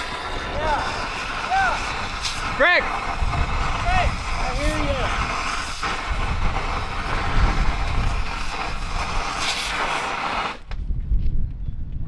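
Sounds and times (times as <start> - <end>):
cutting rod hissing crackle: 0.0 - 10.8.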